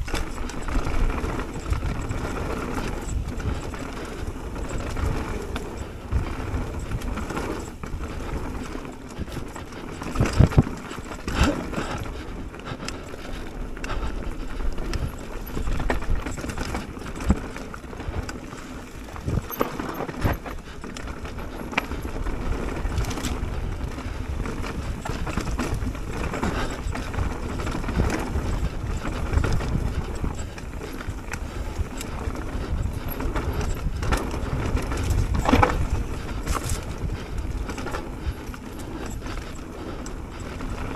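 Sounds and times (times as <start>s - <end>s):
bike knocking and rattling: 0.0s - 40.9s
bike tyres rumbling over dirt: 0.0s - 40.9s.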